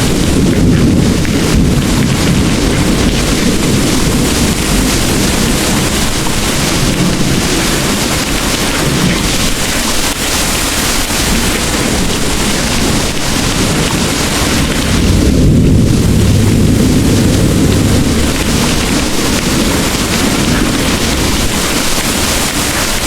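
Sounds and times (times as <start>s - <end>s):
distant thunder rumble: 0.0s - 23.0s
heavy rain pouring: 0.0s - 23.0s.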